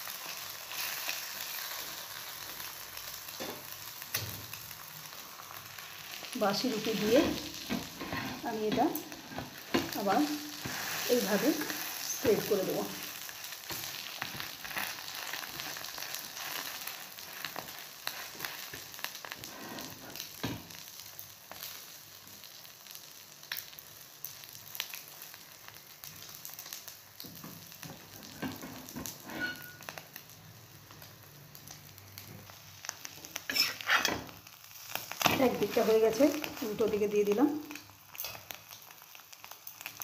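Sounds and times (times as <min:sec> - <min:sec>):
food sizzling on griddle: 0:00.0 - 0:40.0.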